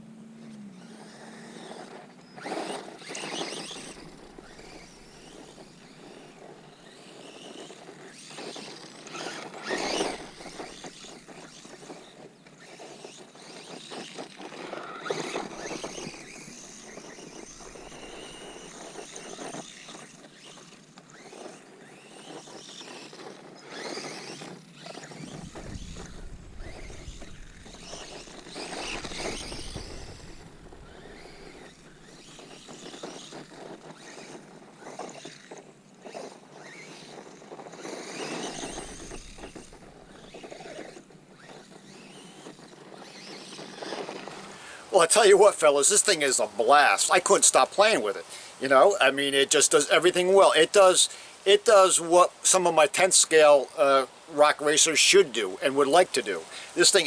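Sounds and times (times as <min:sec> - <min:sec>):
rc truck electric motor surging: 0:00.0 - 0:57.0.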